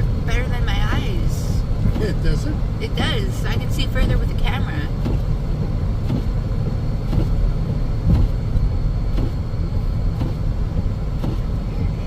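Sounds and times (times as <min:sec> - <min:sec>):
car tyre and engine rumble: 0:00.0 - 0:12.0.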